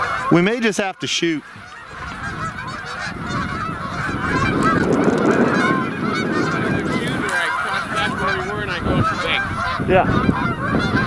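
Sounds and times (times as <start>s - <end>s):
geese honking in flight: 0.0s - 11.0s.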